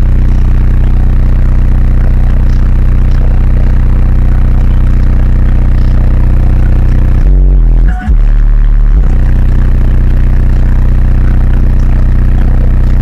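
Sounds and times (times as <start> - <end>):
loud held bass note: 0.0 - 13.0.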